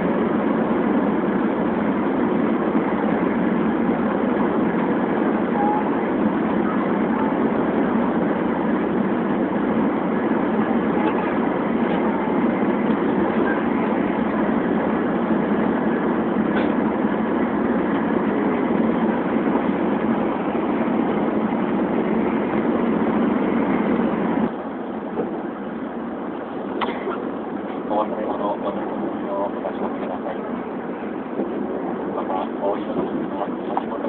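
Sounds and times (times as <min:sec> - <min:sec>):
train interior rush: 0:00.0 - 0:34.0.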